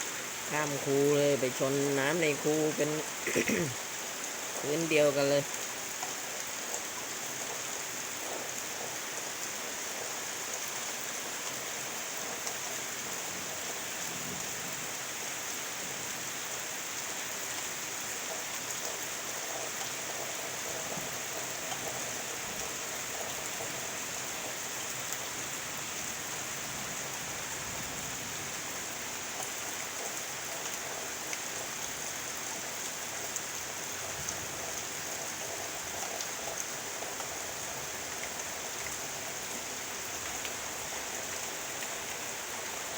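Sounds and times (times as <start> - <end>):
heavy rain hissing: 0.0 - 42.9.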